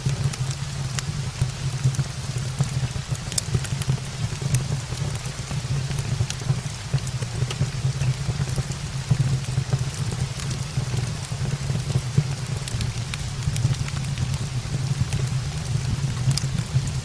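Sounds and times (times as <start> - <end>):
steady rain: 0.0 - 17.0
sharp ticks and crackles: 0.1 - 17.0.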